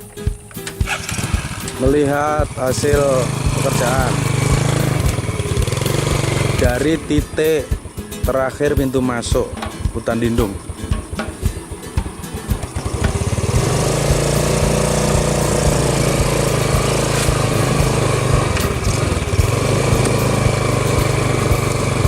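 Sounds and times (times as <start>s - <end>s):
small engine running: 0.4s - 22.0s.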